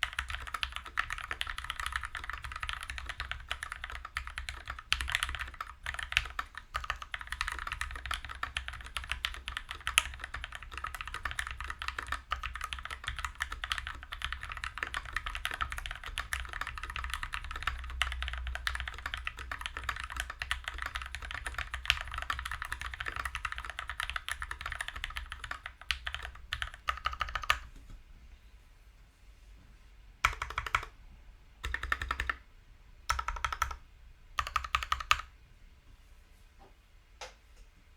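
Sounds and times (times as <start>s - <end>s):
fast typing on mechanical keyboard: 0.0s - 27.7s, 30.2s - 30.9s, 31.6s - 32.4s, 33.1s - 33.8s, 34.4s - 35.3s.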